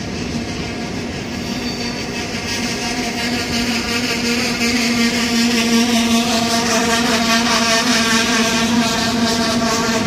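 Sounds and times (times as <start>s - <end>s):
locomotive electrical drone: 0.0s - 10.0s.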